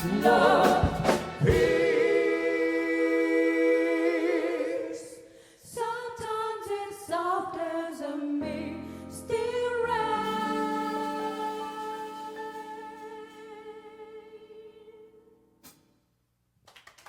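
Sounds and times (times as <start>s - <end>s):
vocal group singing in harmony: 0.0s - 15.3s.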